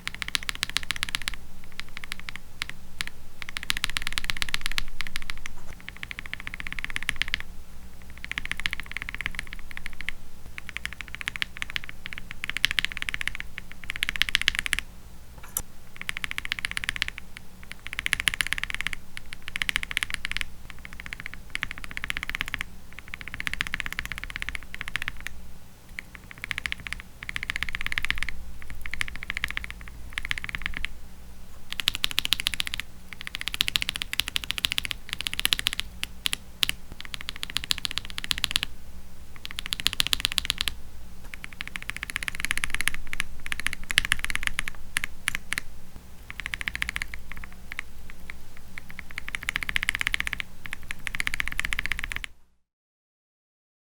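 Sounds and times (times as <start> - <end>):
fast typing on mechanical keyboard: 0.0 - 7.4, 8.1 - 14.8, 16.0 - 30.9, 31.7 - 38.7, 39.4 - 52.3.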